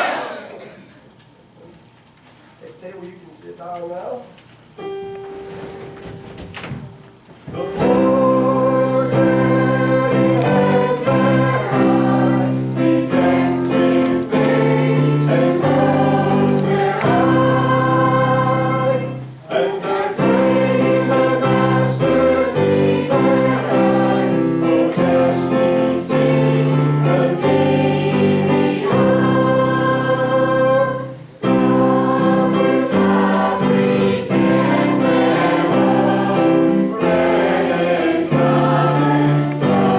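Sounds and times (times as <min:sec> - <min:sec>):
choir singing: 0:00.0 - 0:00.6, 0:07.6 - 0:39.9
musical accompaniment: 0:04.8 - 0:39.9.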